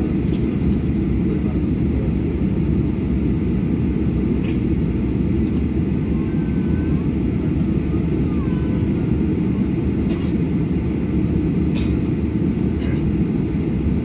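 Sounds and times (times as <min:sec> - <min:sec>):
jet engines rumbling in cabin: 0:00.0 - 0:14.0.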